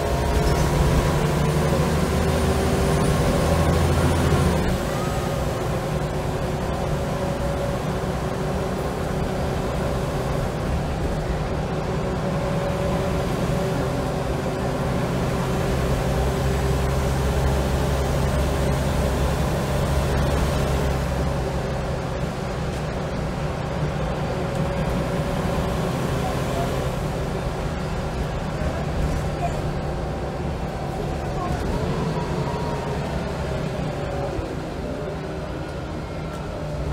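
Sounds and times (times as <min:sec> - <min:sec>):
bus engine drone: 0:00.0 - 0:36.9.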